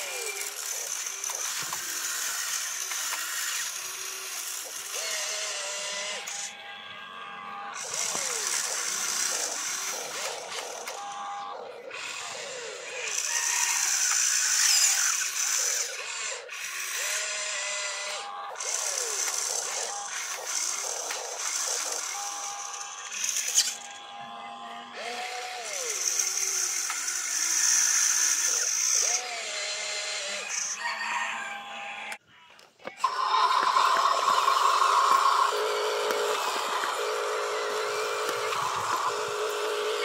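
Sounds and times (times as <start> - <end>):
toy excavator motors whirring: 0.0 - 40.0.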